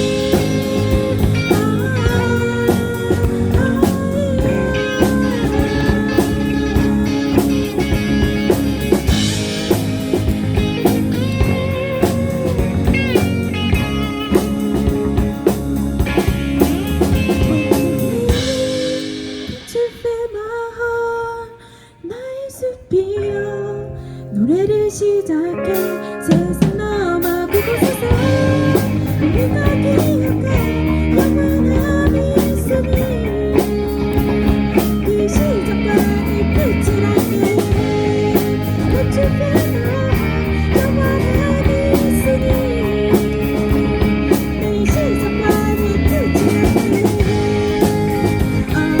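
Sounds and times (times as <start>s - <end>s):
bass guitar: 0.0s - 20.2s, 23.1s - 49.0s
instrumental rock band: 0.0s - 21.3s, 23.1s - 49.0s
electric guitar with bent notes: 0.0s - 21.6s, 22.5s - 49.0s
drums: 0.0s - 49.0s.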